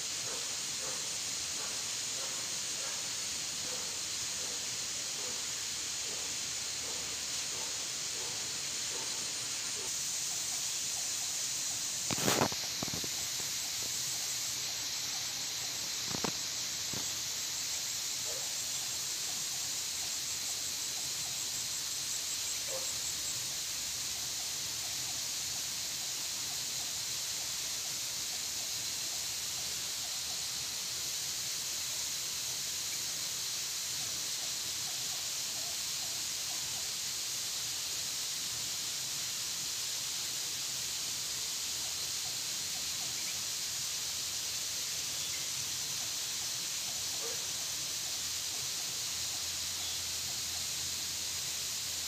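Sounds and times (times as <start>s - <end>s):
insect chorus hissing: 0.0s - 52.0s.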